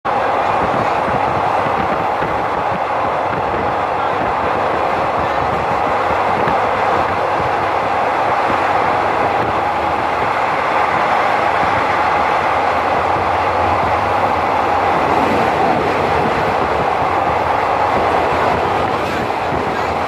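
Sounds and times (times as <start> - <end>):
train wheels on rails: 0.1 - 20.0.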